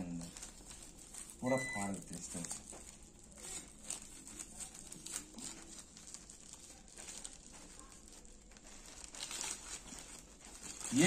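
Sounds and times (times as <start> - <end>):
plastic bag crinkling and tearing: 0.0 - 11.0.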